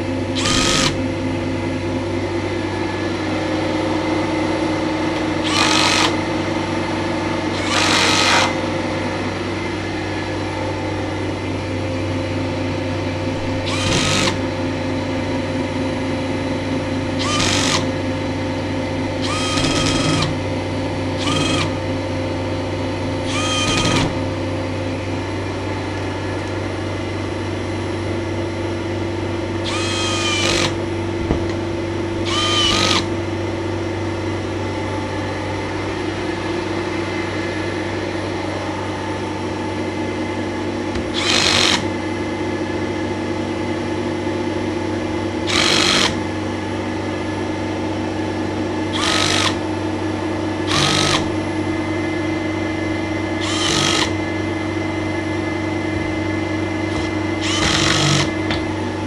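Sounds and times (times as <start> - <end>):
vacuum cleaner drone: 0.0 - 59.0.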